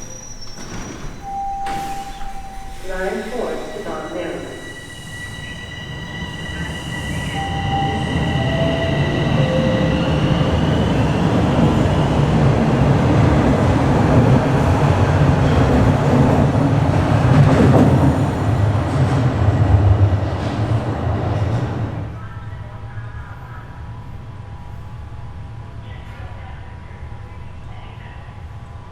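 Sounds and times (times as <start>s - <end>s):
wheels rumbling on rail: 0.0s - 26.3s.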